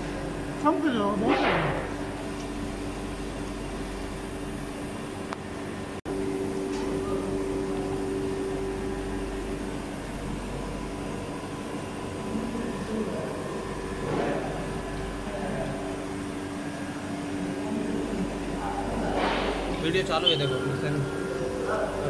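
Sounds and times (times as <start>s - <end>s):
electric fan humming: 0.0s - 22.0s.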